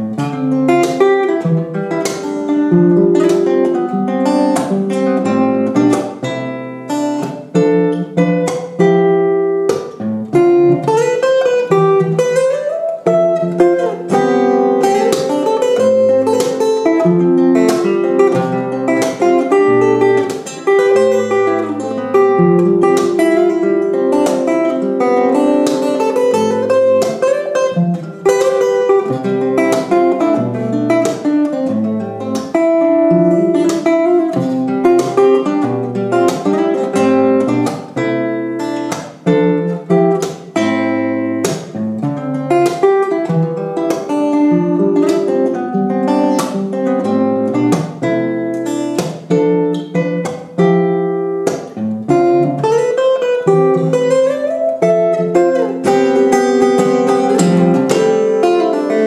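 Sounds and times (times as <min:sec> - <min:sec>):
fingerstyle acoustic guitar: 0:00.0 - 0:59.0.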